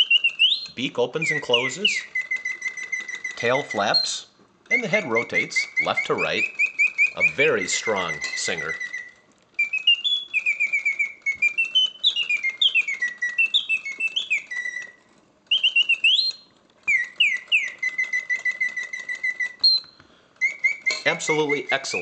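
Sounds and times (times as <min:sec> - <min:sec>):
mechanical bird whistling trills: 0:00.0 - 0:22.0
quiet mechanism running: 0:00.0 - 0:22.0.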